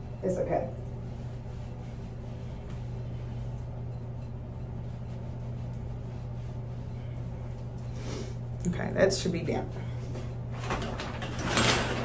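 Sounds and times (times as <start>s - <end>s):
towel rubbing damp hair: 0.0s - 10.4s
low hum: 0.0s - 10.8s.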